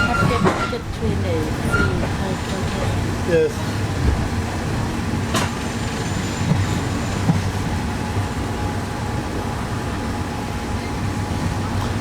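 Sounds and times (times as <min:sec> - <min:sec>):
diesel train engine rumbling: 0:00.0 - 0:12.0.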